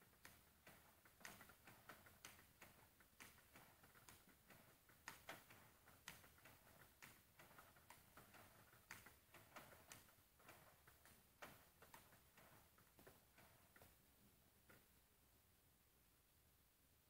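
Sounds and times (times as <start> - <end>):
table tennis ball clicks: 0.2 - 14.0.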